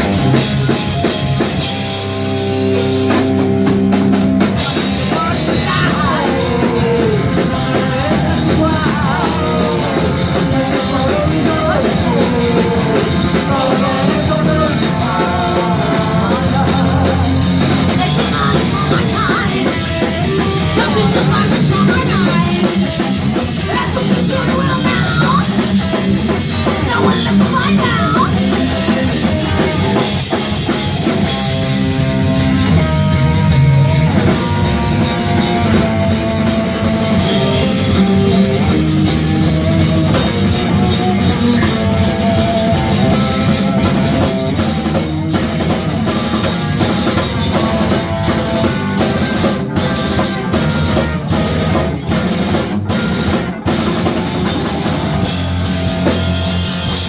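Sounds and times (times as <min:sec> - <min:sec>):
rock band playing loudly: 0:00.0 - 0:57.0.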